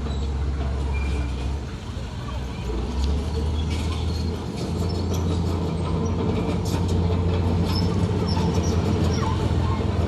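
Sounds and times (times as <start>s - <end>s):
bulldozer diesel engine running: 0.0s - 10.0s
steel tracks clanking and squealing: 0.0s - 10.0s.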